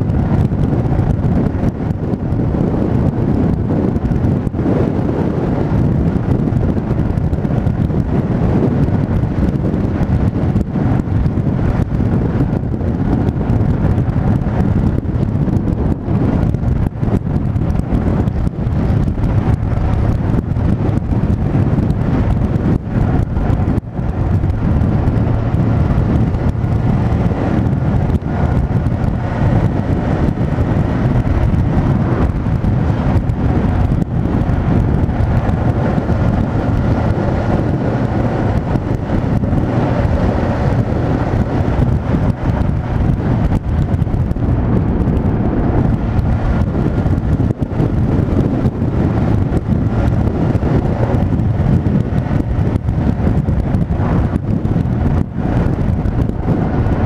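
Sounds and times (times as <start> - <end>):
motorcycle engine: 0.0 - 57.0
wind on microphone: 0.0 - 57.0.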